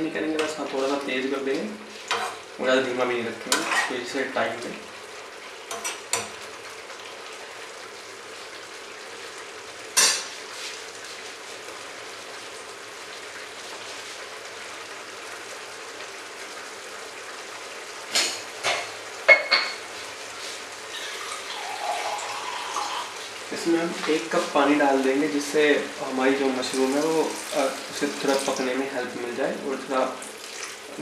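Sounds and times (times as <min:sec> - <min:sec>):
gravy sizzling in metal pan: 0:00.0 - 0:31.0.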